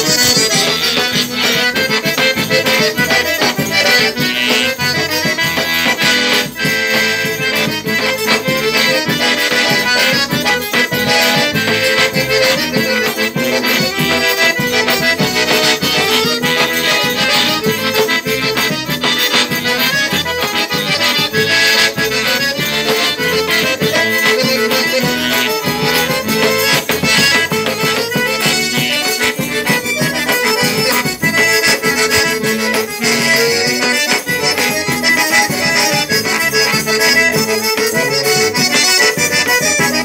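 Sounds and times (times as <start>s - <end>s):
accordion playing: 0.0s - 40.0s.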